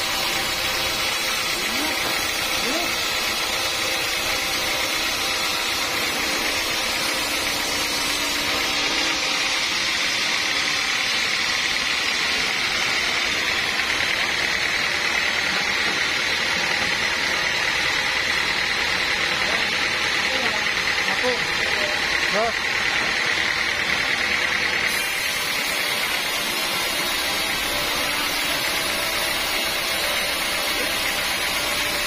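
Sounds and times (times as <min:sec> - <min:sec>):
high saw whine: 0:00.0 - 0:32.0
sawmill saw cutting log: 0:00.0 - 0:32.0.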